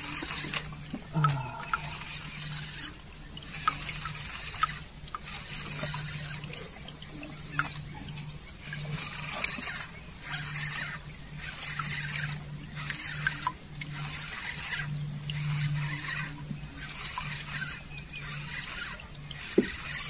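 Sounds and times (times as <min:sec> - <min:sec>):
low hum: 0:00.0 - 0:20.0
water trickling: 0:00.0 - 0:20.0.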